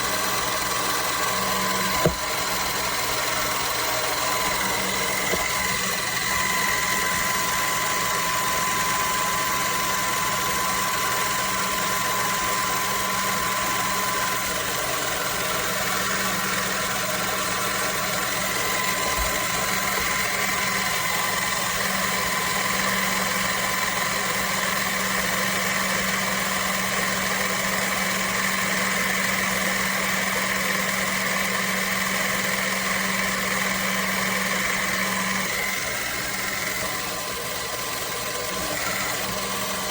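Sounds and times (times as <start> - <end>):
electric motor humming: 0.0 - 39.9.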